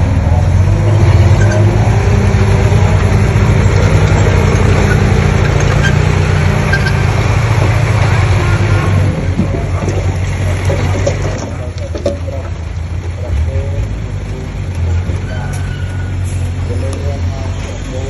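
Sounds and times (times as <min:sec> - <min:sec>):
bulldozer diesel engine drone: 0:00.0 - 0:18.0.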